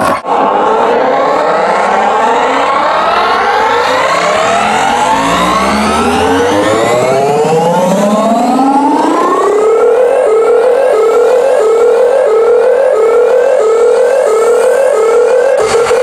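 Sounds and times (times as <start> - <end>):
electronic dance music: 0.0 - 16.0
rising sweep: 0.0 - 16.0
siren-like synth glide: 0.0 - 16.0.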